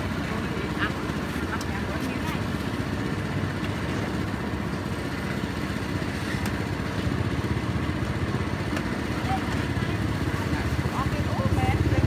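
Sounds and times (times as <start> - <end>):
small motorbike engine running: 0.0 - 12.0.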